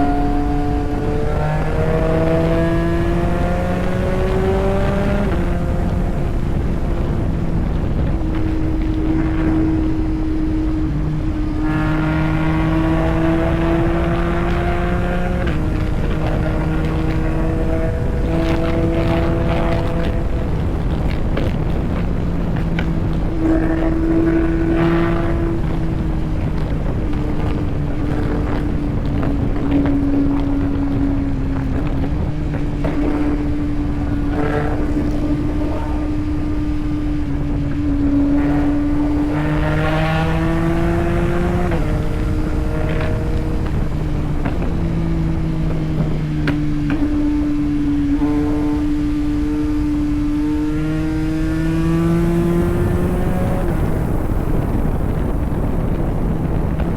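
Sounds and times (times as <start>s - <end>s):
motorcycle engine accelerating: 0.0s - 56.9s
wind rushing from riding: 0.0s - 56.9s.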